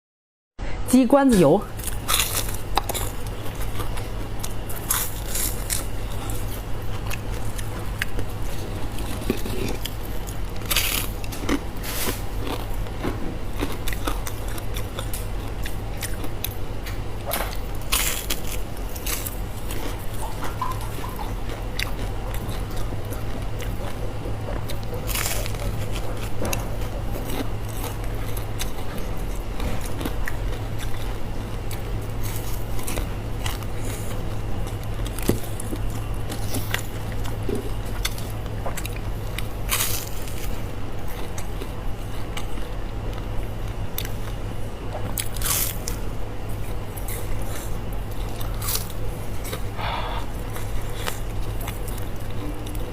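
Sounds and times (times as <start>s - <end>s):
low hum: 0.6s - 52.9s
crunching and chewing fried food: 1.2s - 52.9s.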